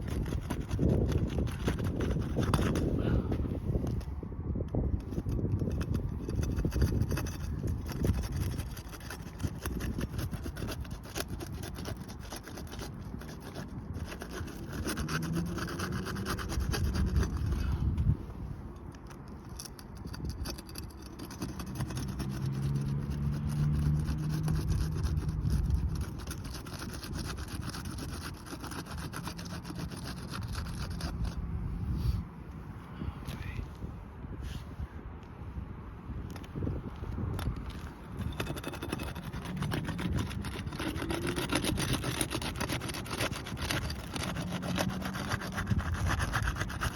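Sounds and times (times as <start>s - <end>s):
wind rumbling on microphone: 0.0s - 46.9s.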